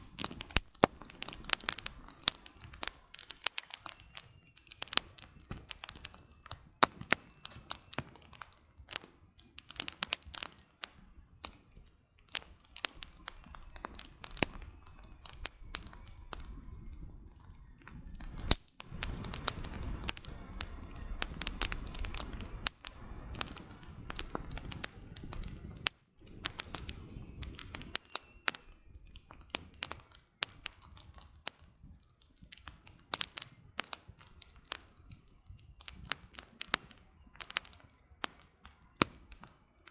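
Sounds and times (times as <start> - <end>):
campfire crackling and popping: 0.0 - 39.9
low rushing flames: 0.0 - 39.9.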